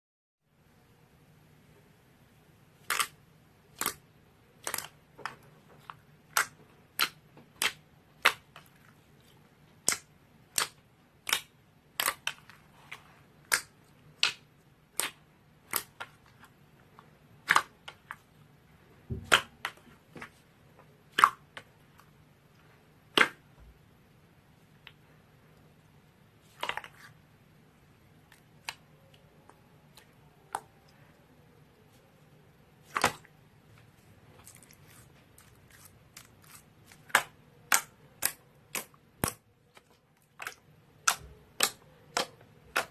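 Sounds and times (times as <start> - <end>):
faint steady hum: 0.5 - 42.9.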